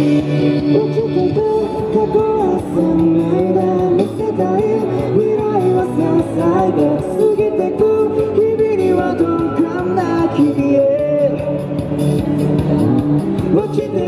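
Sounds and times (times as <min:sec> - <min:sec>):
man singing into microphone: 0:00.0 - 0:11.8, 0:13.4 - 0:14.0
amplified pop backing music: 0:00.0 - 0:14.0.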